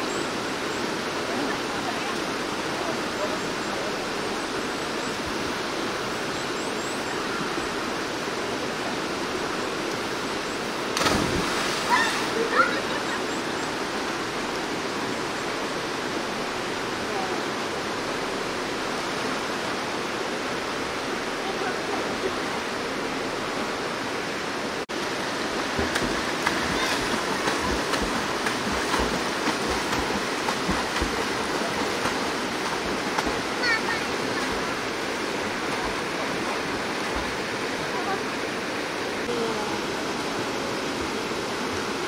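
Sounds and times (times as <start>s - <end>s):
stream rapids rushing: 0.0s - 42.0s.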